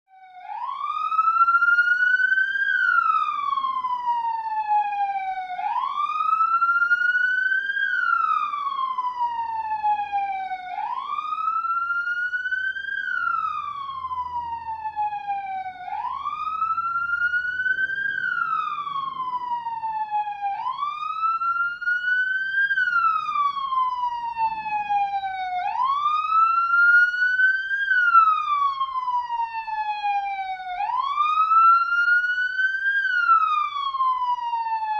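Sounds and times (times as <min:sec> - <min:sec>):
police siren wailing: 0:00.1 - 0:34.9.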